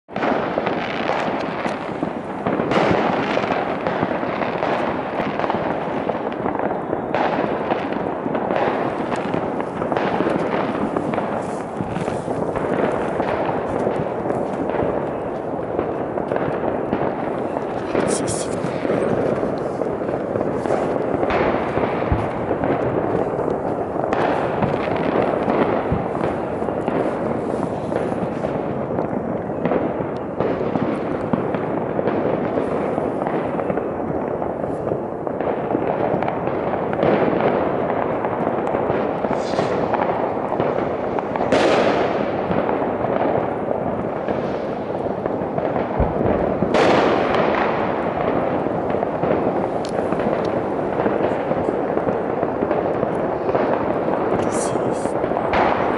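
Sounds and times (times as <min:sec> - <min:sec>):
fireworks crackling and banging: 0:00.0 - 0:55.9.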